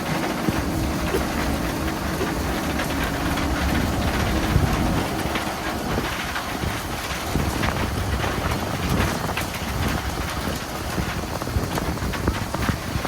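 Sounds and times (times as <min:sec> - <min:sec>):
boat engine rumble: 0:00.0 - 0:13.0
wind noise on microphone: 0:00.0 - 0:13.0.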